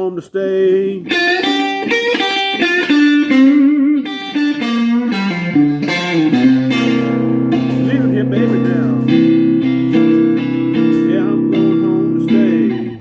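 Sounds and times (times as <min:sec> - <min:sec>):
electric guitar blues fill: 0:00.0 - 0:13.0.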